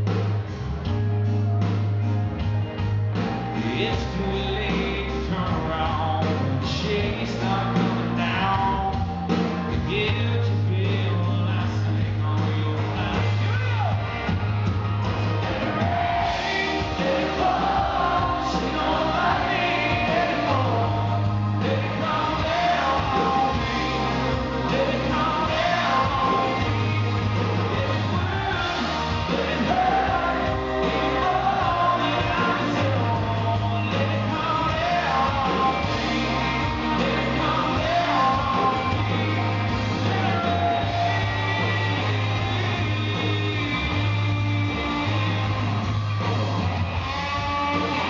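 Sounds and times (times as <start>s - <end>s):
drums: 0.0s - 48.0s
steady low bass line: 0.0s - 48.0s
man singing: 3.4s - 14.1s, 15.4s - 45.4s.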